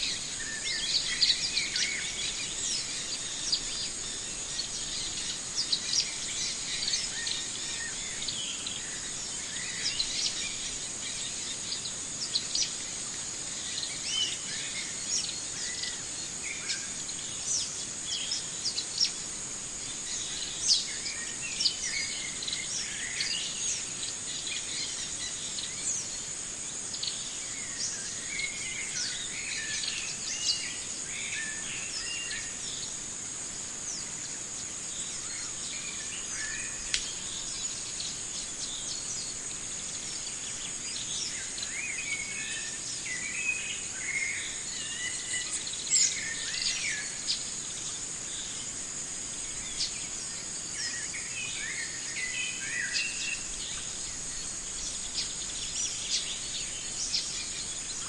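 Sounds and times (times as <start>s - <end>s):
high insect buzz: 0.0s - 58.0s
small birds chirping: 0.0s - 58.0s.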